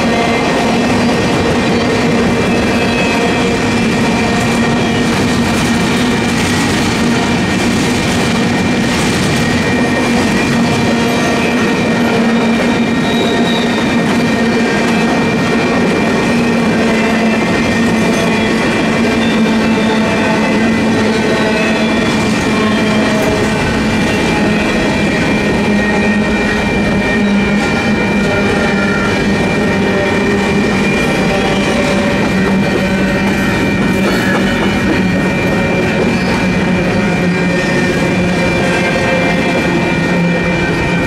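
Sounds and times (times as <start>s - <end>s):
train wheels rumbling on rail: 0.0s - 41.0s.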